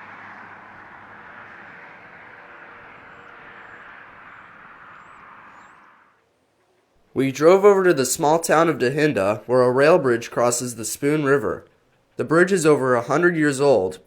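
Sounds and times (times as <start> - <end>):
locomotive engine hum: 0.0 - 14.0.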